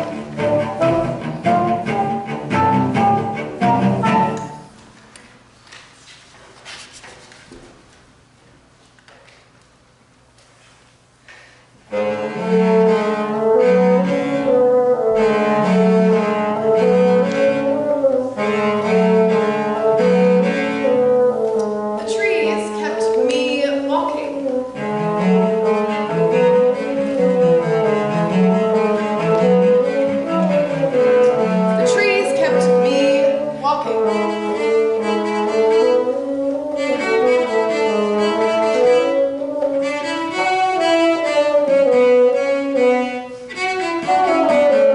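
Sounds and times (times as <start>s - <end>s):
bassoon: 0.0s - 4.7s, 11.9s - 44.9s
cello: 0.0s - 4.7s, 11.9s - 44.9s.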